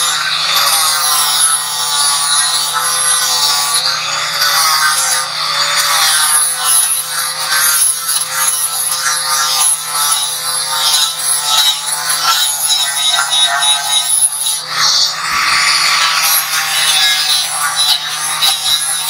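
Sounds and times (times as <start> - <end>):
angle grinder grinding metal: 0.0 - 19.0.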